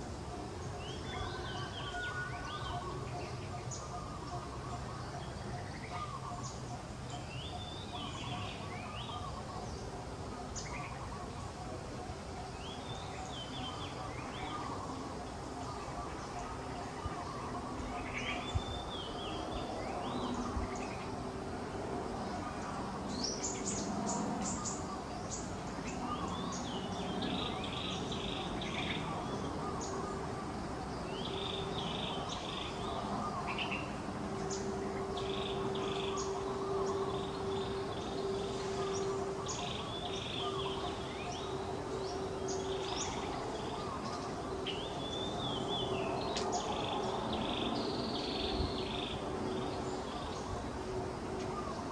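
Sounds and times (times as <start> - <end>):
birds chirping and trilling: 0.0 - 51.9
faint low drone: 0.0 - 51.9
outdoor background hum: 0.0 - 51.9.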